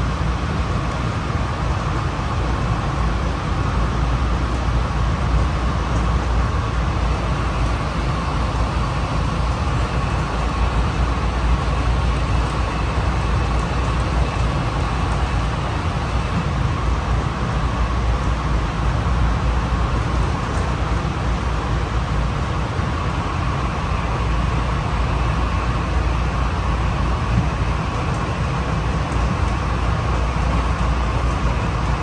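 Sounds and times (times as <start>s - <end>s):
rumble of wheels on rail: 0.0s - 32.0s.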